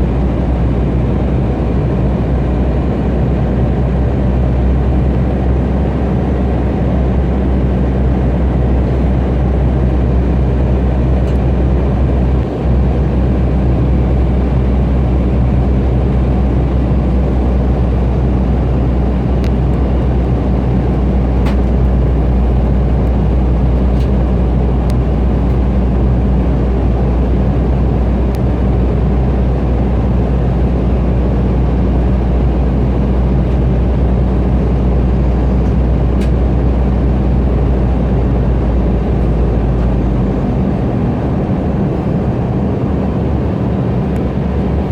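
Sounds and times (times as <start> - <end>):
jet engine hum in cabin: 0.0 - 44.9
rushing airflow: 8.2 - 44.9.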